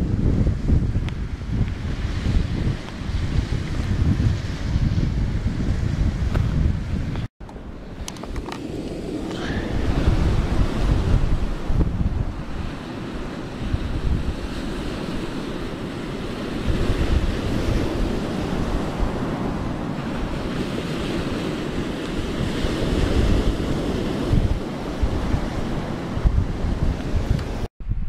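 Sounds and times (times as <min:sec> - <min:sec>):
surf washing: 0:00.0 - 0:27.7
wind buffeting microphone: 0:00.0 - 0:28.0.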